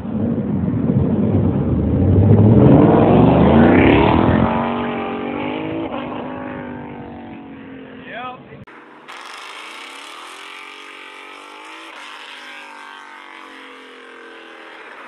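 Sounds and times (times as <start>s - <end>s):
car loud exhaust accelerating: 0.0s - 15.0s.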